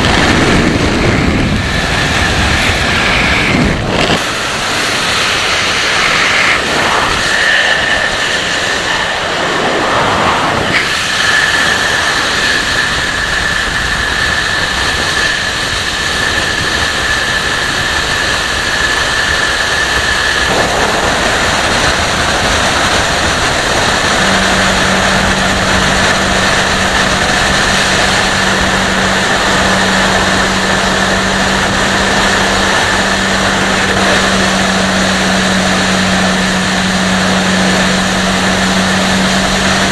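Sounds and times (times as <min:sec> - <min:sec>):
motorcycle engine and tyres: 0:00.0 - 0:39.9
wind rushing over microphone: 0:00.0 - 0:39.9.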